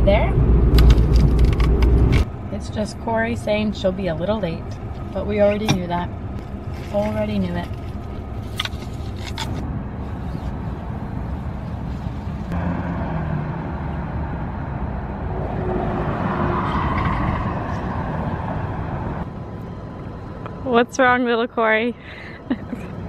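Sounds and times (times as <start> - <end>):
car and street noise: 0.0 - 23.0.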